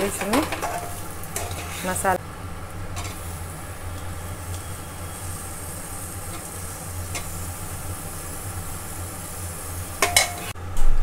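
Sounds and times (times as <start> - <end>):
steel spoon scraping: 0.0 - 2.2, 3.0 - 8.9, 9.6 - 10.6
rice sizzling in a pot: 0.0 - 10.6
steady low hum: 0.0 - 11.0.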